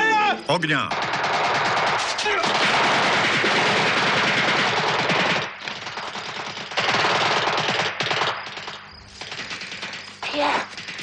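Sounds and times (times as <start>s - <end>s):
automatic gunfire bursts: 0.8s - 11.0s.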